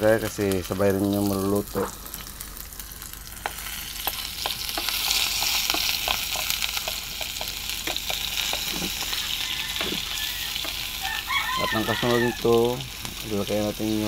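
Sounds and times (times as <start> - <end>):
onion and garlic sizzling in oil: 0.0 - 14.0.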